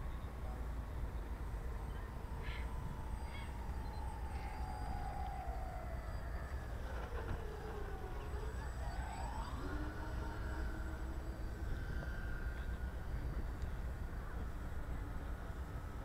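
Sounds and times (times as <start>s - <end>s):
wind rumble on microphone: 0.0s - 16.0s
model aircraft motors whining: 0.3s - 16.0s.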